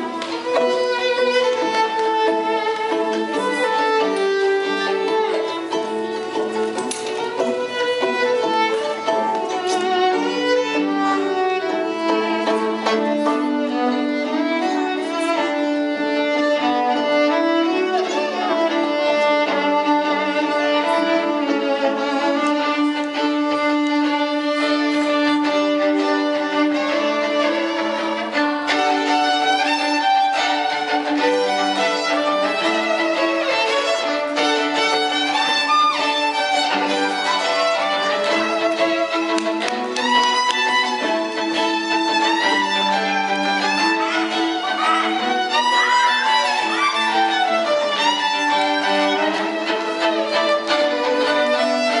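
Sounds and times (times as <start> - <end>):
two violins playing: 0.0 - 52.0.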